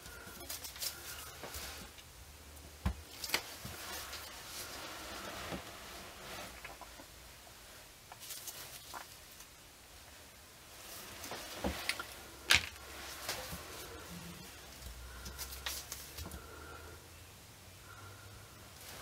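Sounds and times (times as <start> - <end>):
soft rustling: 0.0 - 2.1, 3.0 - 17.0.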